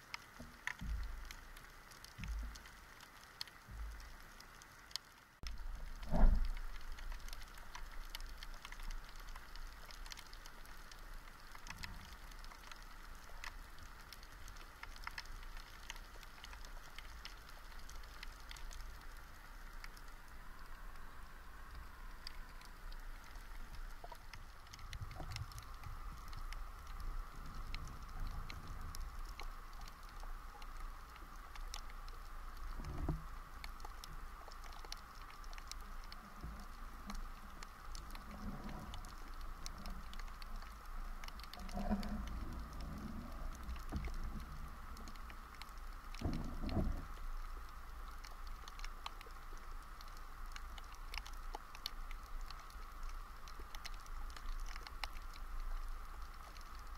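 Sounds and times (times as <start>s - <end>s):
constant hiss: 0.0s - 56.9s
underwater crackle of clicks: 0.0s - 56.9s.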